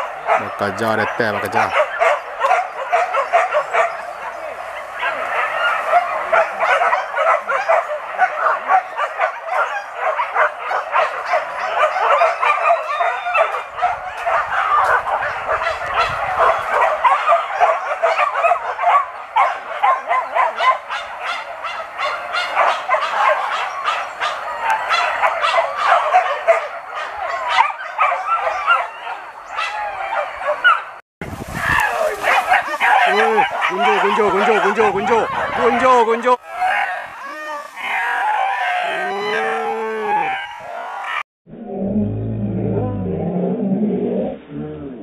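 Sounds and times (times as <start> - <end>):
dogs yelping and barking: 0.0 - 31.0, 31.6 - 41.3.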